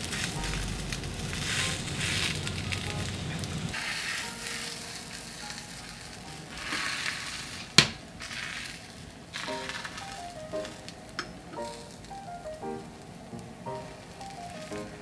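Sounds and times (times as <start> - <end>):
light background music: 0.0 - 8.4, 9.4 - 15.0
egg sizzling in a frying pan: 0.0 - 15.0.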